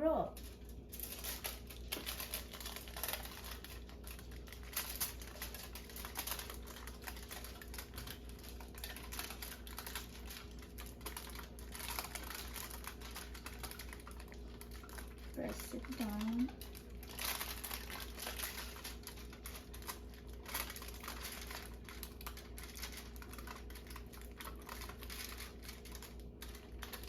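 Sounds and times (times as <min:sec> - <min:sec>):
aluminium foil crinkling: 0:00.0 - 0:27.0.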